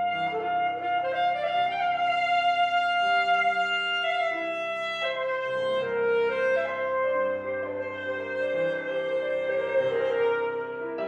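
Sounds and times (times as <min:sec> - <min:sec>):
alto saxophone melody: 0:00.0 - 0:11.0
piano accompaniment: 0:00.0 - 0:11.0.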